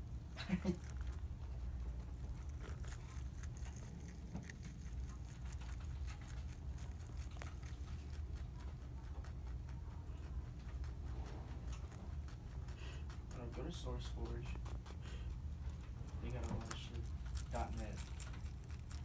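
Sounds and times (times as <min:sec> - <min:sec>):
low steady hum: 0:00.0 - 0:19.0
rabbit chewing crisp lettuce: 0:00.0 - 0:19.0.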